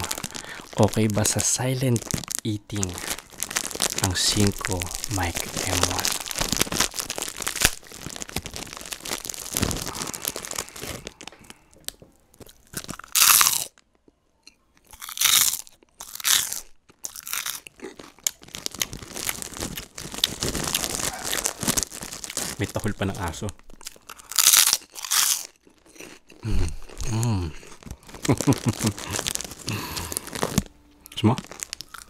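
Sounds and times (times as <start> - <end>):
snack crunching: 0.0 - 22.9, 23.6 - 32.0.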